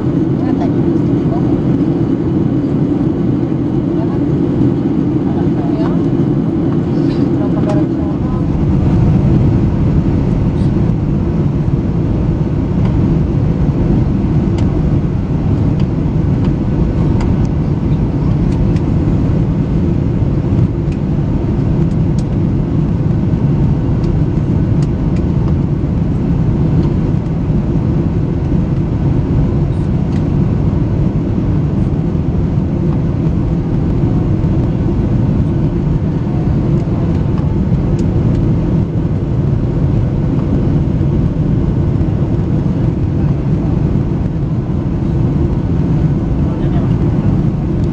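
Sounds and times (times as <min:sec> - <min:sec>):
jet airliner cabin rumble: 0:00.0 - 0:47.9.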